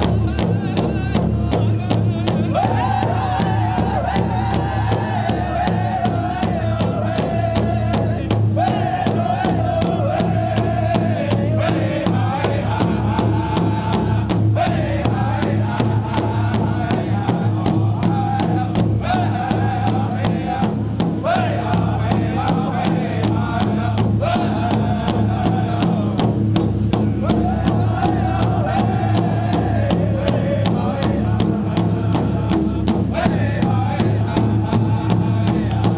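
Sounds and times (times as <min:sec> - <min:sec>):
group singing in high voices: 0:00.0 - 0:35.9
large drum steady beat: 0:00.0 - 0:35.9.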